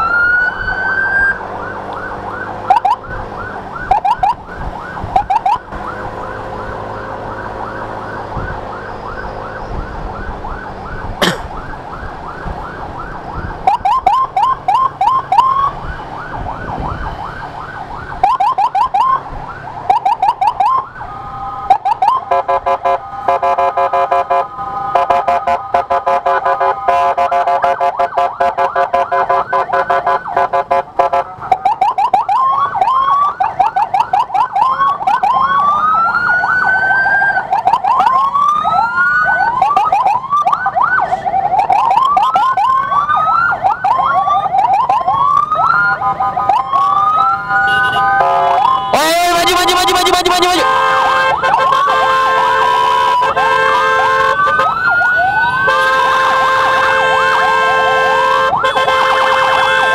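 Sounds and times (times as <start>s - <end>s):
electronic siren yelping and warbling: 0.0s - 59.9s.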